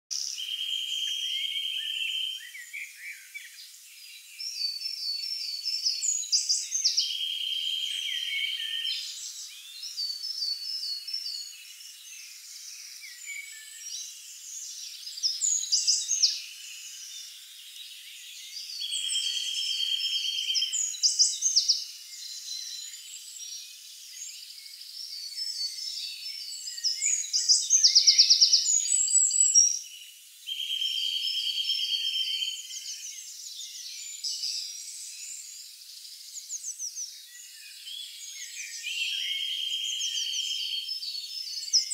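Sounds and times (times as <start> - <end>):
birds chirping: 0.1 - 41.9.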